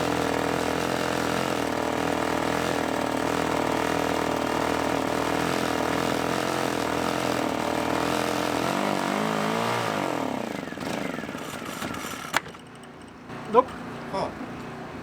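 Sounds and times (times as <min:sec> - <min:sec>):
generator engine running and stalling: 0:00.0 - 0:15.0.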